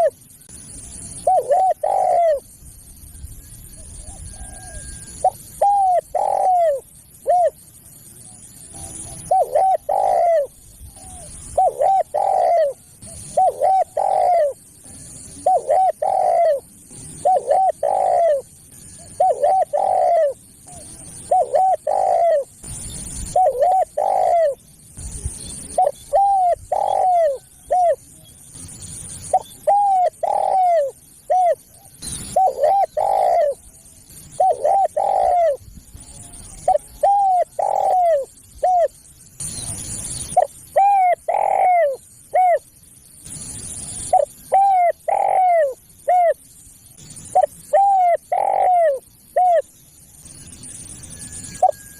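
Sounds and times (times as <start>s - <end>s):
dove cooing: 0.0s - 0.2s, 1.2s - 2.6s, 3.7s - 7.6s, 8.2s - 24.7s, 25.6s - 28.2s, 29.2s - 39.0s, 39.6s - 42.7s, 44.0s - 46.4s, 47.2s - 49.7s.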